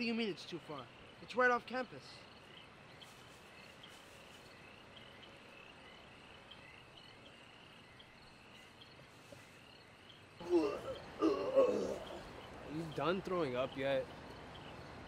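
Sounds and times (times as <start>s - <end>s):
background hiss: 0.0s - 15.0s
crickets chirping: 0.0s - 15.0s.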